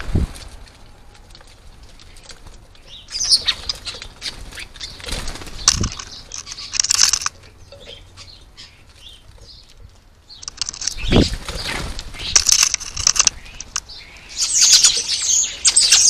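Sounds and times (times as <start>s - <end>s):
birds flapping wings: 0.0s - 7.4s, 10.4s - 16.0s.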